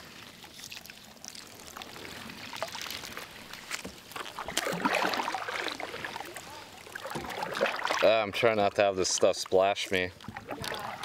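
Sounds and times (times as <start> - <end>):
paddle splashing water: 0.0 - 11.0.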